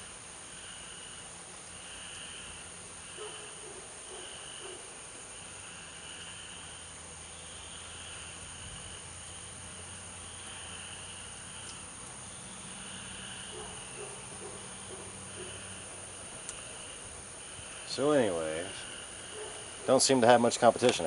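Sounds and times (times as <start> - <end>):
insects droning: 0.0 - 21.0
pulsing insect chorus: 0.0 - 21.0.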